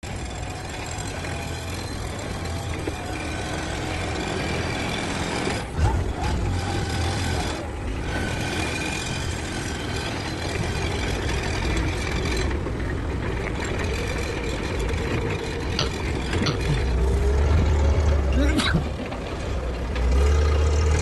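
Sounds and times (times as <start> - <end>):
forklift engine humming: 0.0 - 21.0.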